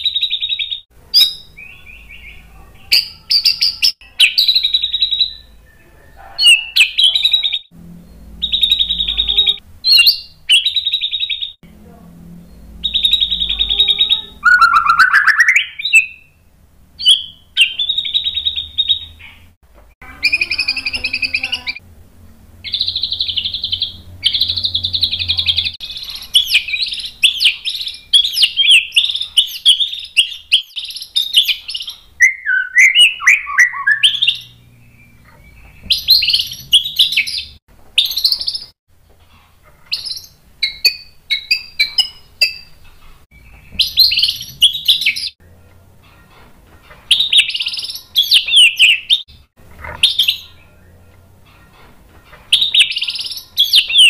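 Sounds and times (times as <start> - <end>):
songbird singing: 0.0 - 38.8, 39.8 - 54.0.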